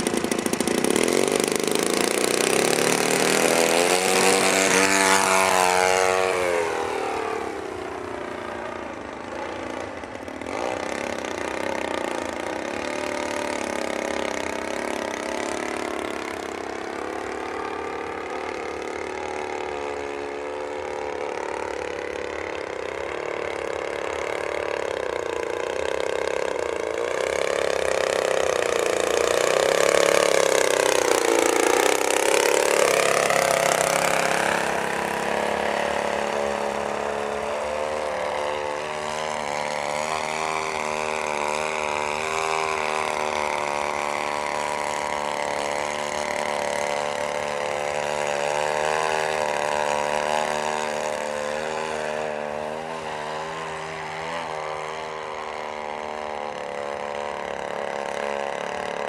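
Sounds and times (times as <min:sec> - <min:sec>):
model plane engine: 0:00.0 - 0:59.0.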